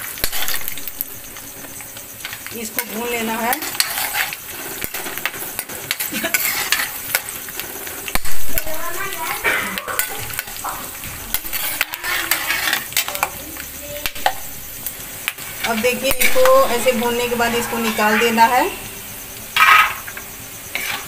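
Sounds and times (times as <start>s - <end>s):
metal ladle scraping pan: 0.0s - 13.2s, 15.4s - 18.5s, 19.6s - 20.1s, 20.7s - 21.0s
peanuts sizzling in oil: 0.0s - 21.0s.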